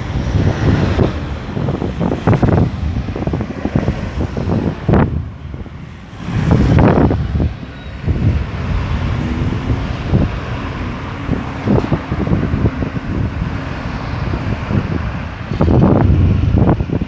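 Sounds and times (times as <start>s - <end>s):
road traffic passing: 0.0s - 17.0s
wind buffeting microphone: 0.0s - 17.0s.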